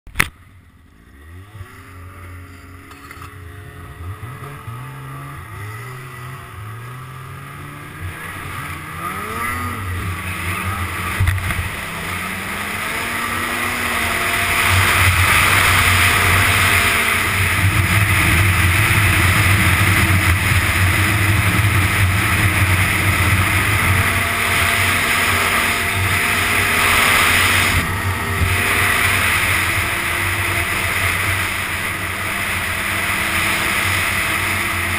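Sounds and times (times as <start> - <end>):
wind and track noise: 0.1 - 34.9
snowmobile engine revving: 0.7 - 34.9.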